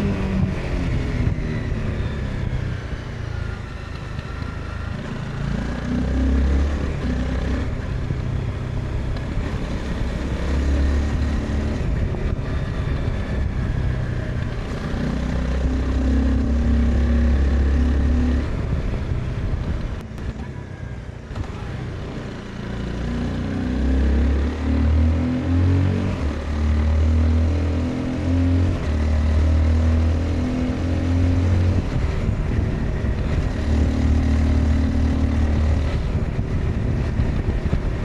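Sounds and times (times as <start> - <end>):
motorcycle engine under throttle: 0.0 - 38.0.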